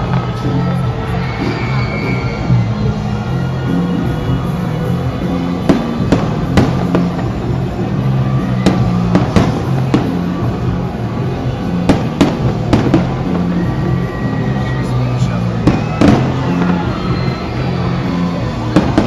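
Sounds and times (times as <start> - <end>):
fireworks bangs and cracks: 0.0 - 19.0
loud music with bass line: 0.0 - 19.0.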